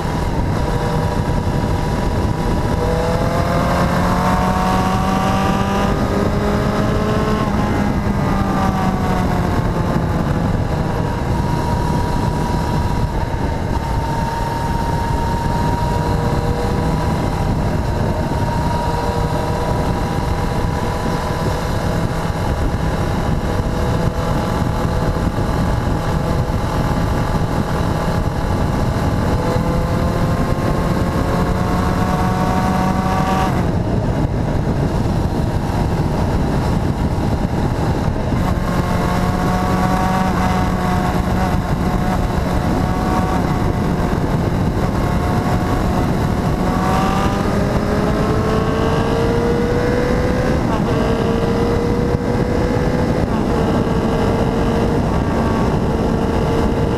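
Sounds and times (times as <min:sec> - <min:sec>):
motorcycle engine running: 0:00.0 - 0:56.9
wind rushing over microphone: 0:00.0 - 0:56.9.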